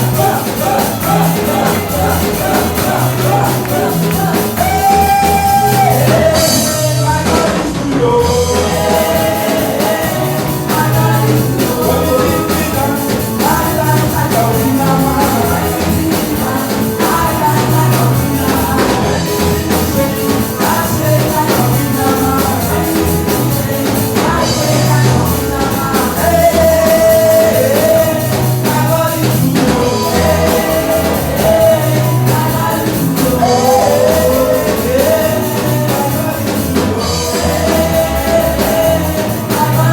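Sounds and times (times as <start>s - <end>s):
band playing steady beat: 0.0s - 39.9s
person singing: 0.0s - 39.9s.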